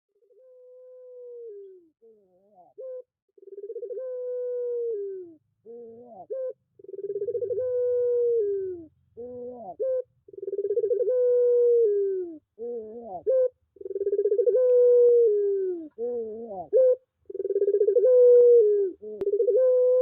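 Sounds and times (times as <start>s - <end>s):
dove cooing: 0.2s - 20.0s.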